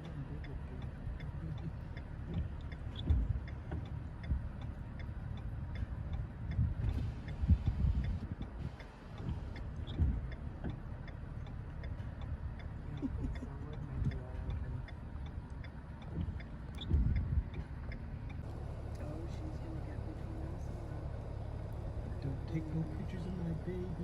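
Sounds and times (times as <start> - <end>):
light ticking: 0.0 - 24.0
vehicle road noise rumble: 0.0 - 24.0.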